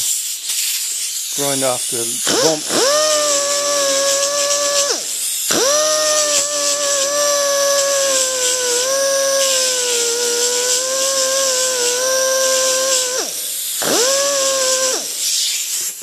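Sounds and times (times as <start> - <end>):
electric grinder whining: 2.2 - 16.0.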